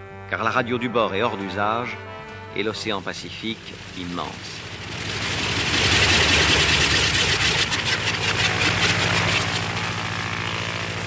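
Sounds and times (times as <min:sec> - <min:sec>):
aircraft engine running steadily: 0:01.3 - 0:11.0
aircraft engine running rough: 0:02.1 - 0:11.0.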